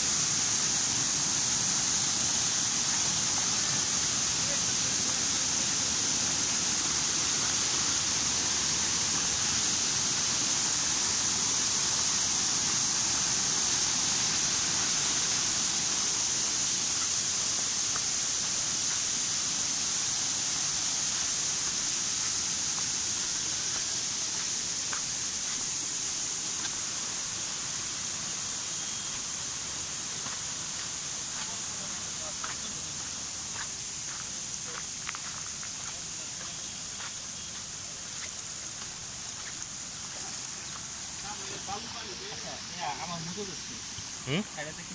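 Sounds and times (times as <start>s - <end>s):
waterfall rushing over rocks: 0.0s - 44.9s.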